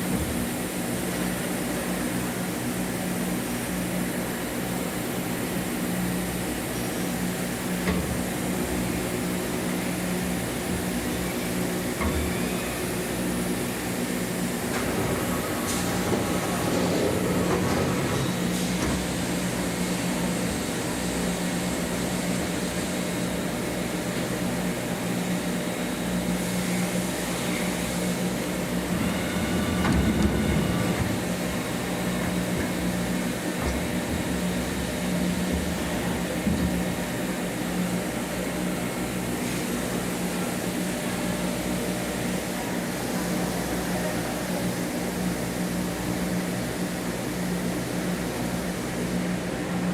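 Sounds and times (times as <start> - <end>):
machinery humming: 0.0 - 49.9.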